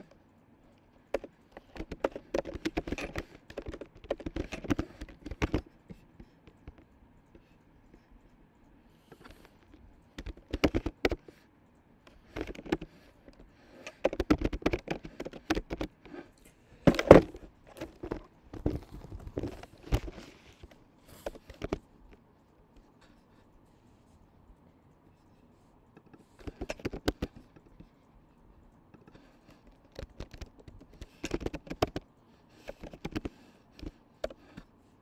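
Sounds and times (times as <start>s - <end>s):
keyboard typing: 0.0s - 8.2s, 8.9s - 23.5s, 25.9s - 28.1s, 28.8s - 34.7s.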